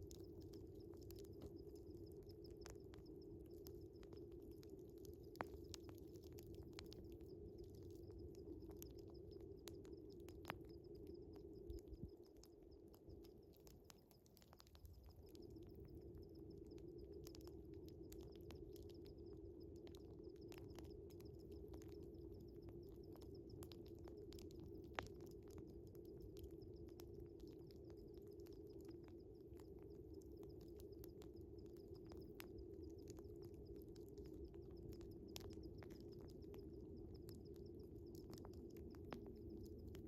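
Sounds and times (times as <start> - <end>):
crickets chirping: 0.0 - 40.0
wood fire crackling and popping: 0.0 - 40.0.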